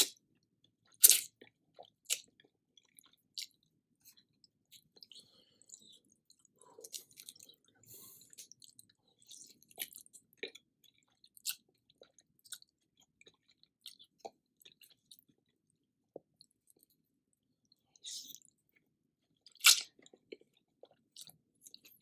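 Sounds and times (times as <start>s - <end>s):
person chewing food: 0.8s - 17.0s, 17.7s - 18.5s, 19.4s - 22.0s.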